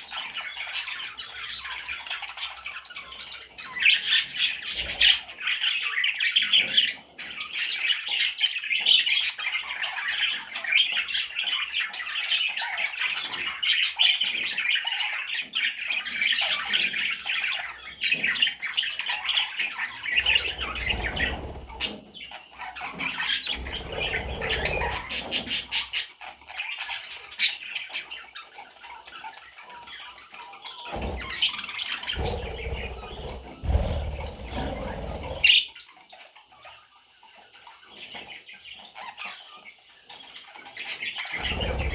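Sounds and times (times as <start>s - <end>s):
budgie chicks squawking: 0.0s - 41.9s.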